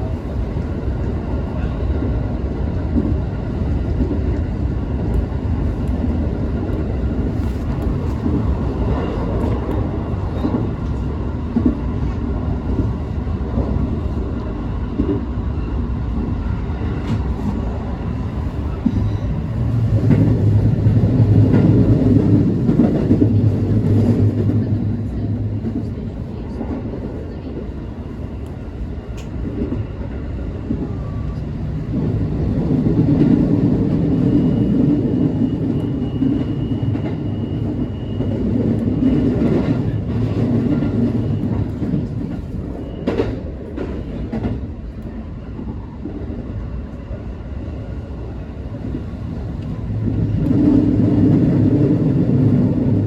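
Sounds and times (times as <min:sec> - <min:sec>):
train wheel-on-rail rumble: 0:00.0 - 0:53.0.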